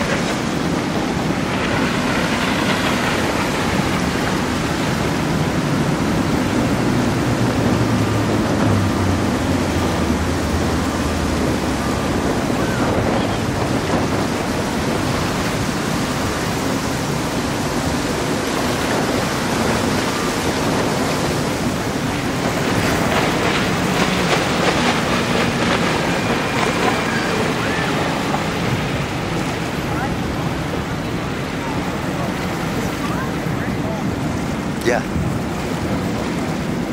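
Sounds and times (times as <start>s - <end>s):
powerboat engines running: 0.0s - 36.9s
rush of wake and waves: 0.0s - 36.9s
wind buffeting microphone: 0.0s - 36.9s.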